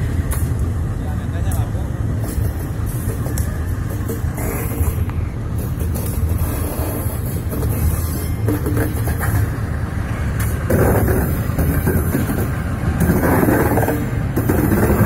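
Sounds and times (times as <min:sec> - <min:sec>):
diesel locomotive engine running: 0:00.0 - 0:15.0
steel wheels rumbling over track: 0:00.0 - 0:15.0.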